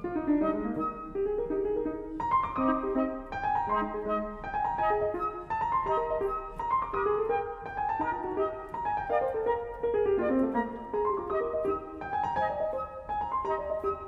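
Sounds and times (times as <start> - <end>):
classical piano music: 0.0 - 14.0.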